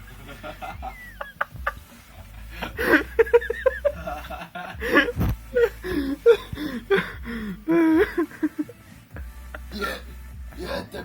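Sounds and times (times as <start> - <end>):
people laughing and snickering: 0.0 - 10.9.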